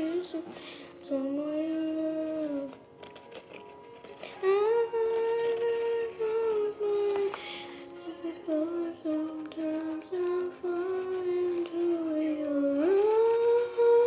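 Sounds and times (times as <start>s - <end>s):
girl humming a slow melody: 0.0s - 2.9s, 4.2s - 14.0s.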